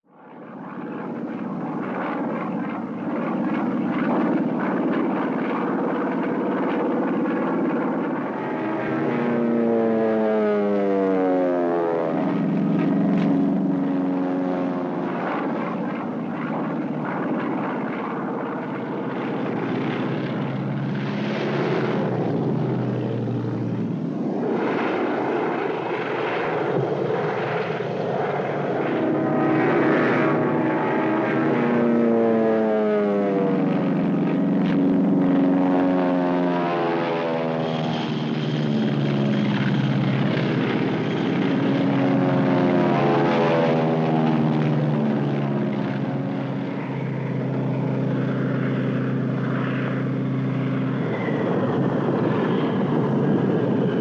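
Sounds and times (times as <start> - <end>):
airplane engine droning: 0.0 - 54.0.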